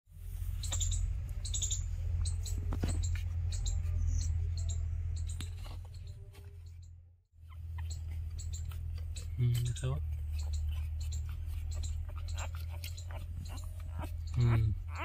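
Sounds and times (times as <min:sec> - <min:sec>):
newborn puppies squeaking: 0:00.5 - 0:15.0.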